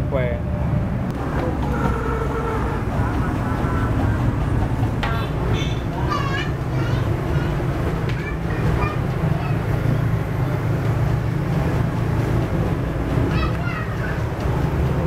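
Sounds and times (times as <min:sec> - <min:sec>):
gas burner roaring: 0:00.0 - 0:15.0.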